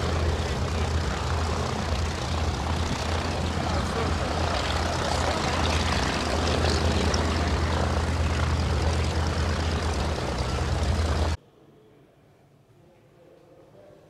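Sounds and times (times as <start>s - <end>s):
propeller whirring: 0.0s - 11.4s
rotary aircraft engine running: 0.0s - 11.4s.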